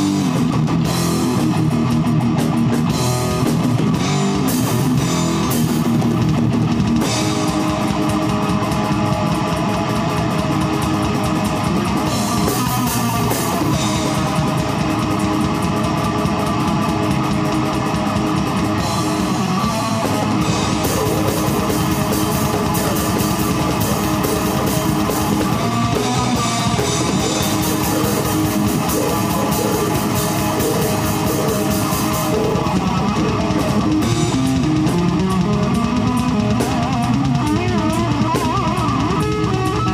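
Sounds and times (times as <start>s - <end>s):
rapid kick drum pulse: 0.0s - 39.7s
distorted electric guitars: 0.0s - 39.9s
fast drumming on drum kit: 0.0s - 39.9s
heavy metal band playing live: 0.0s - 39.9s.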